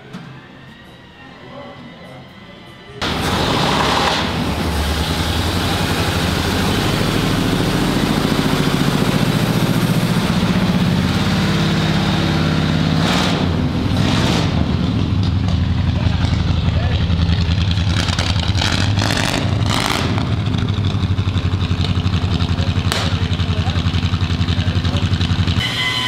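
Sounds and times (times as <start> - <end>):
car engine running: 3.0 - 25.6.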